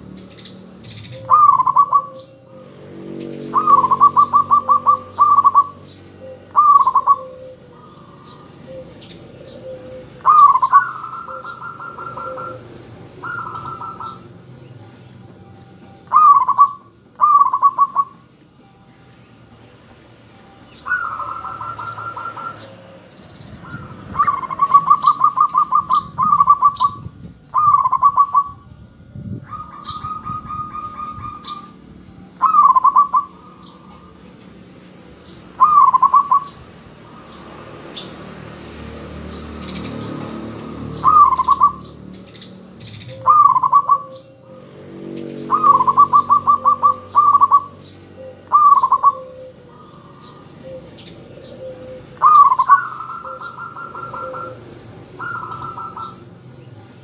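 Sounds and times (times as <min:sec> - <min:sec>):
dove cooing: 0:00.0 - 0:14.9, 0:15.8 - 0:18.4, 0:20.7 - 0:38.0, 0:39.2 - 0:57.0.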